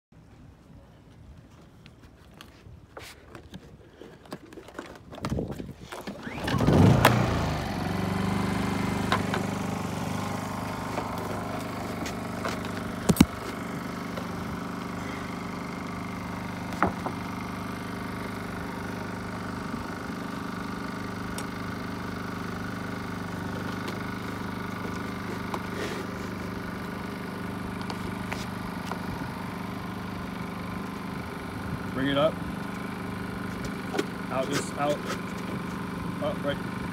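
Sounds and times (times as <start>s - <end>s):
generator engine running: 5.7s - 36.9s.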